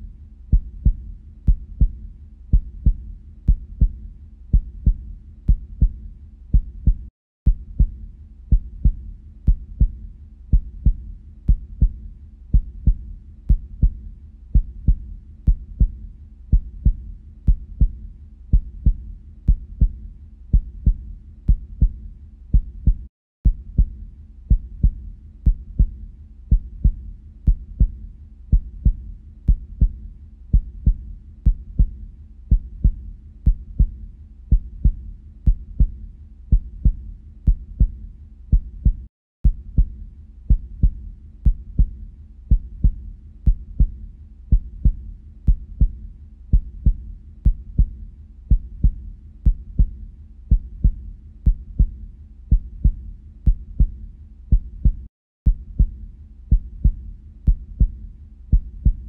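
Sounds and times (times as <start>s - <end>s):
heartbeat: 0.0s - 59.0s.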